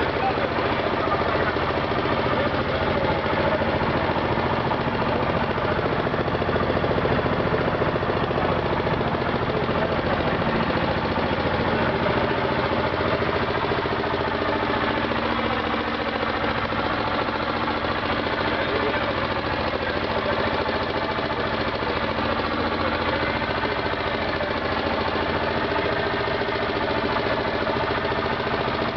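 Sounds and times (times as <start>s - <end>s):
boat engine running: 0.0s - 28.9s.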